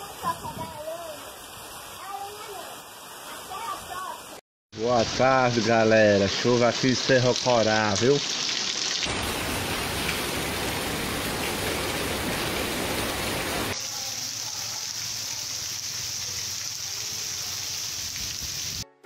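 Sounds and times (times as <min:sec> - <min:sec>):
heavy rain pouring: 0:00.0 - 0:18.8.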